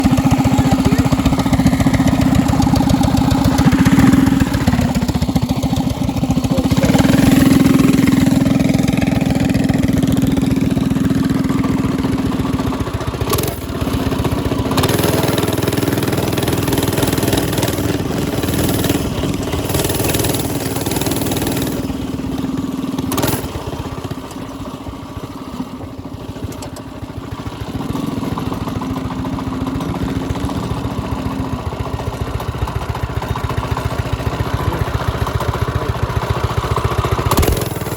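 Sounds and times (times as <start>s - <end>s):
mini bike engine idling: 0.0s - 37.9s.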